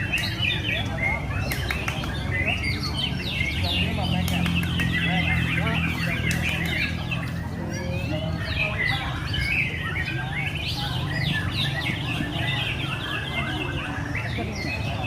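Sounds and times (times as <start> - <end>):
birds whistling and chirping: 0.0 - 15.0.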